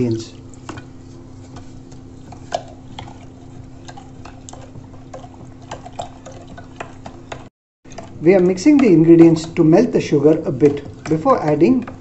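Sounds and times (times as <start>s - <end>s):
liquid swishing: 0.0s - 12.0s.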